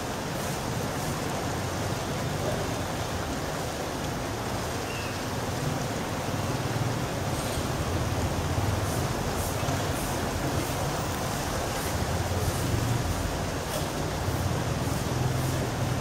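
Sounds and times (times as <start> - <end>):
rain falling on street: 0.0 - 16.0.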